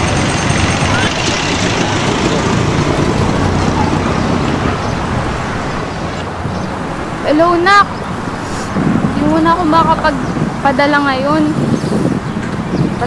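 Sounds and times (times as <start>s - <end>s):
road traffic rumble and hiss: 0.0s - 13.0s
vehicle passing close: 0.0s - 13.0s.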